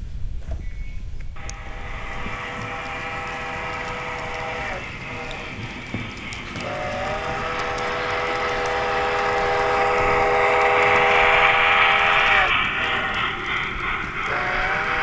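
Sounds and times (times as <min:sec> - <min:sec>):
train wheels rumbling on track: 0:01.3 - 0:15.0
model train whistle: 0:01.4 - 0:13.4, 0:14.2 - 0:15.0.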